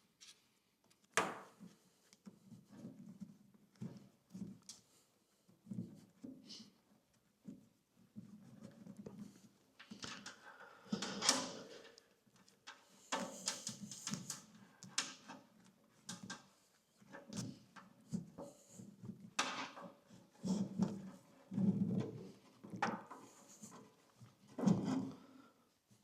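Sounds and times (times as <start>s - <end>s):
wiring rustling and scraping: 0.2s - 26.0s.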